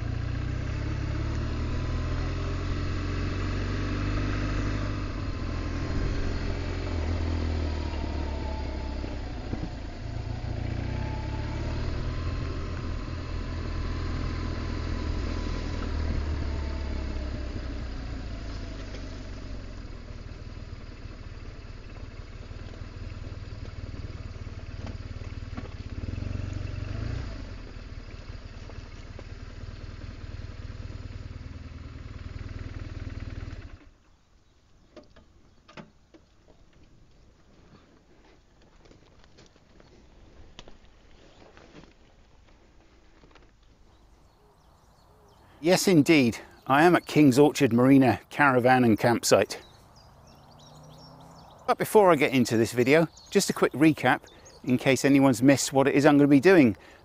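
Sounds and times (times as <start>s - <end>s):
motorcycle engine running: 0.0s - 34.9s, 37.6s - 57.0s.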